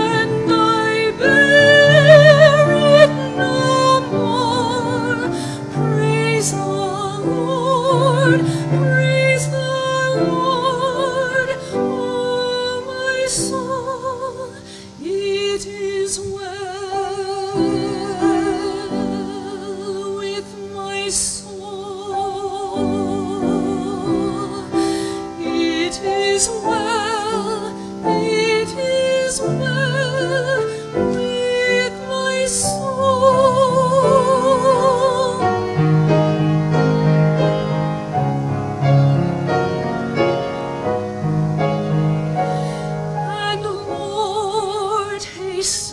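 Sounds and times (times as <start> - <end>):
woman singing: 0.0 - 36.4, 41.9 - 45.9
grand piano: 0.0 - 45.9.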